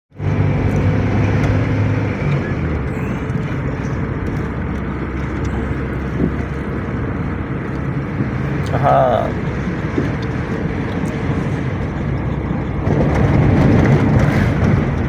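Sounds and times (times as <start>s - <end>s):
road noise: 0.1s - 15.0s
vehicle engine running: 0.1s - 15.0s.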